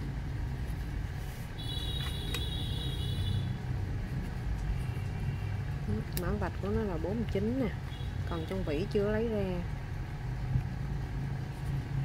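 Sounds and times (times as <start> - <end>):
low rumble of road traffic: 0.0 - 12.0.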